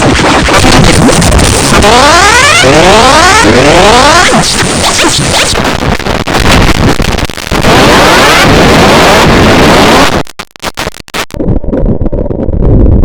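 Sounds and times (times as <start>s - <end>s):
distorted noise with rising sweeps: 0.0s - 12.5s.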